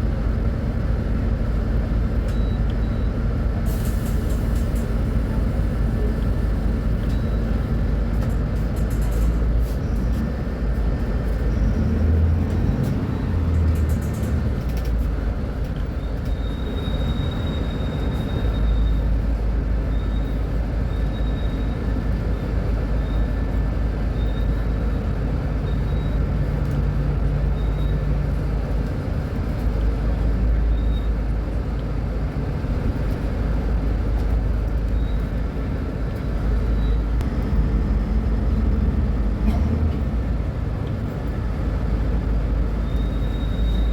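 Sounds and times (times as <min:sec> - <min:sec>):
bus diesel engine rumble: 0:00.0 - 0:43.9.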